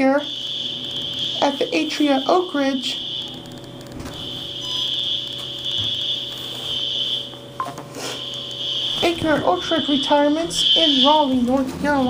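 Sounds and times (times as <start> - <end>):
fire alarm high steady tone: 0.0 - 12.0.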